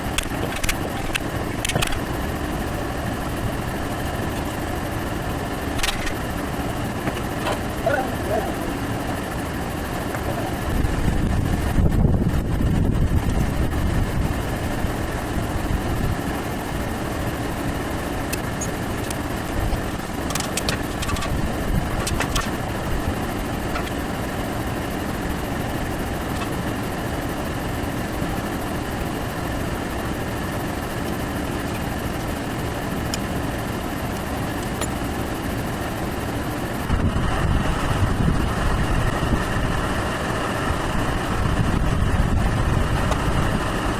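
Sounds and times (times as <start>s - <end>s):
machine running with hum: 0.0s - 43.9s.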